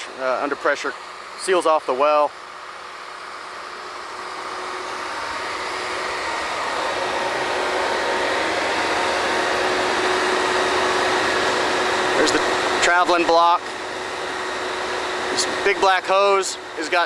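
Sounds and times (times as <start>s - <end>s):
drilling rig machinery hum: 0.0s - 17.0s.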